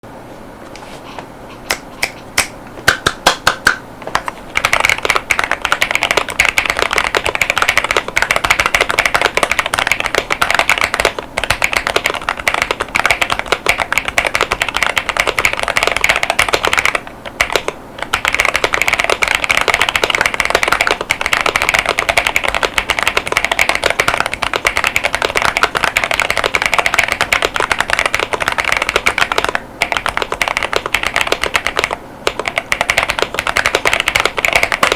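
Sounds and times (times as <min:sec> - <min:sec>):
mechanical keyboard typing: 0:04.1 - 0:34.9.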